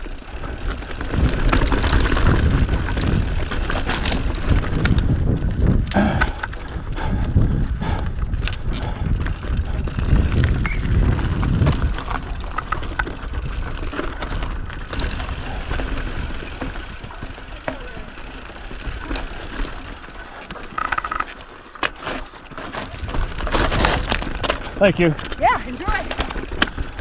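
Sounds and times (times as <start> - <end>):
bike rattling: 0.0 - 27.0
bike tyres rolling over stones: 0.0 - 27.0.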